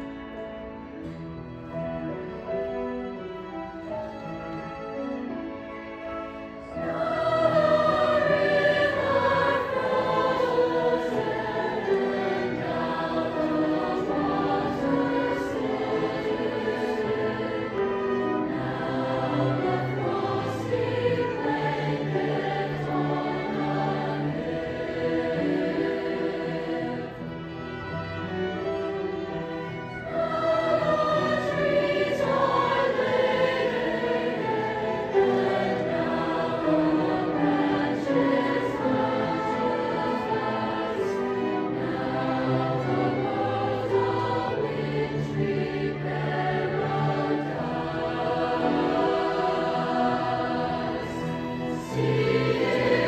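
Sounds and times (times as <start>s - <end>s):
choir singing: 0.0s - 53.0s
piano: 0.0s - 53.0s
strings: 0.0s - 53.0s.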